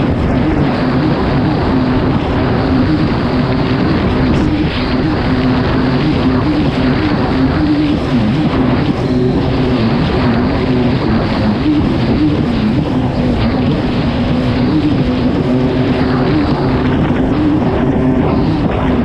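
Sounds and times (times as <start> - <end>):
jet ski engine running hard: 0.0 - 19.0
rushing water noise: 0.0 - 19.0.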